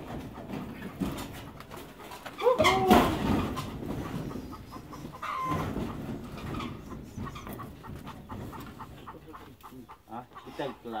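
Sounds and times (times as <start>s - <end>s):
chickens calling: 0.0s - 11.0s.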